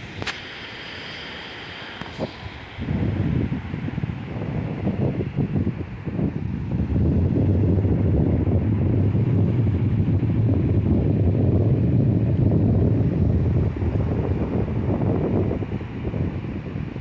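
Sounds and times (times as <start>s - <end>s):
sea surf: 0.0s - 10.9s, 11.8s - 17.0s
wind buffeting microphone: 0.0s - 17.0s.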